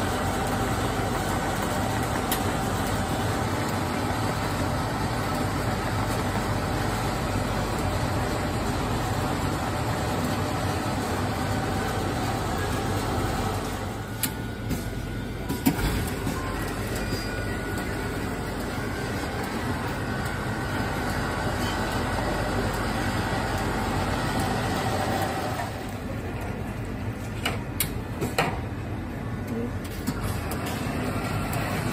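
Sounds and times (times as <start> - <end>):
frozen drink machine humming: 0.0 - 31.9
refrigeration hum: 0.0 - 31.9.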